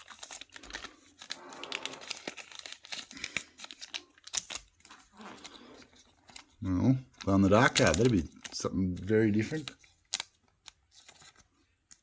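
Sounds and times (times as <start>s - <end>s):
card packaging crinkling: 0.0s - 12.0s.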